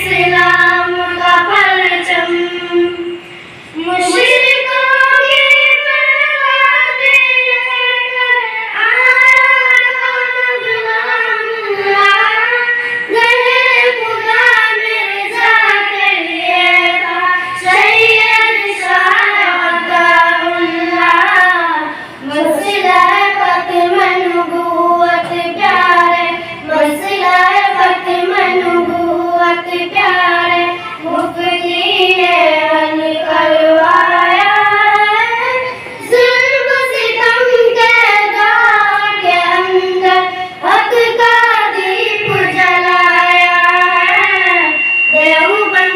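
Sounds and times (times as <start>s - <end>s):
girls singing into microphones: 0.0s - 45.9s.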